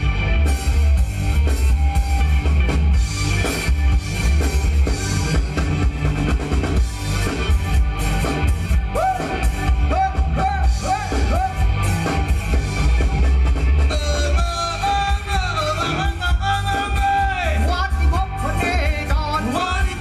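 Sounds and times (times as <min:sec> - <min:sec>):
drum kit and bass beat: 0:00.0 - 0:20.0
live dance band: 0:00.0 - 0:20.0.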